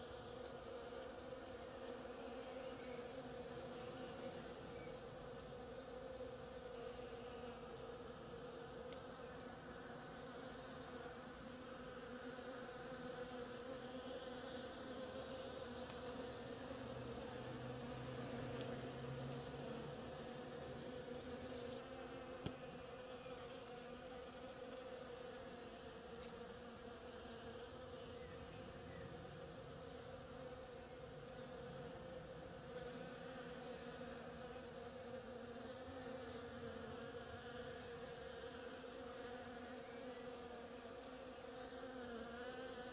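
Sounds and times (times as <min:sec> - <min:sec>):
bees buzzing: 0:00.0 - 0:42.9.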